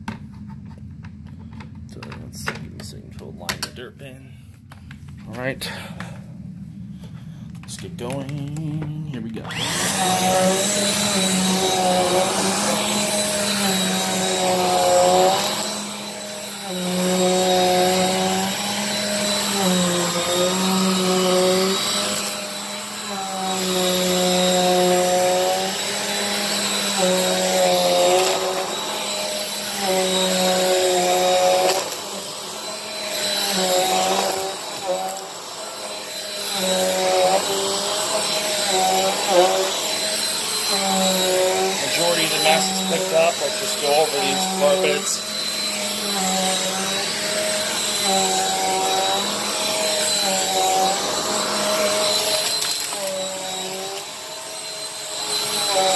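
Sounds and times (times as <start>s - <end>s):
vacuum cleaner on carpet: 7.0s - 55.9s.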